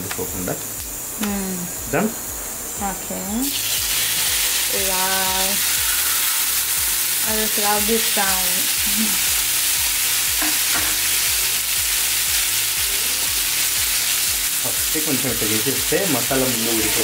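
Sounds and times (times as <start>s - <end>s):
fish sizzling in a pan: 2.4s - 17.0s.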